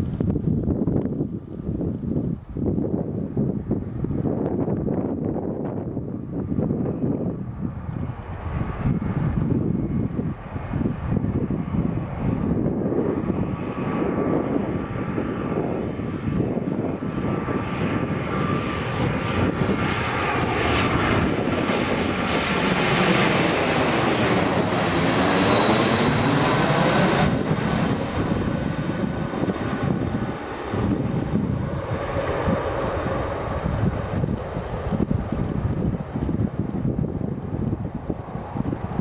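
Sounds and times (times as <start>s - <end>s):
jet airliner flying overhead: 0.0s - 39.0s.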